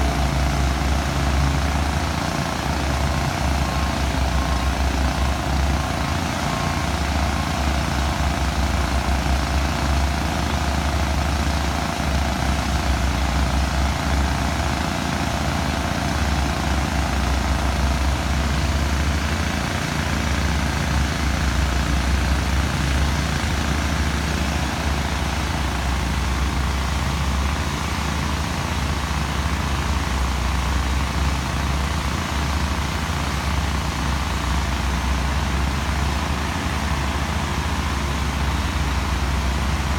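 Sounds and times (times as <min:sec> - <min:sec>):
machinery engines rumbling: 0:00.0 - 0:39.9.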